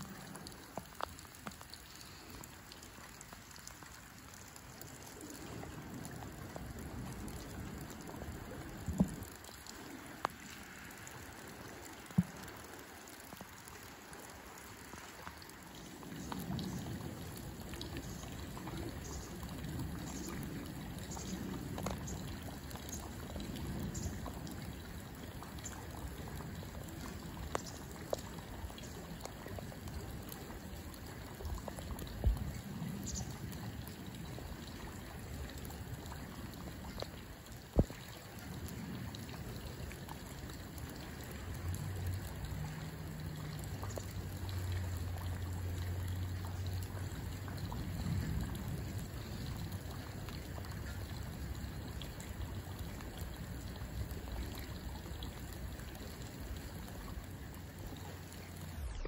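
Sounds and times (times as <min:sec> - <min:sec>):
river water trickling: 0:00.0 - 0:59.0.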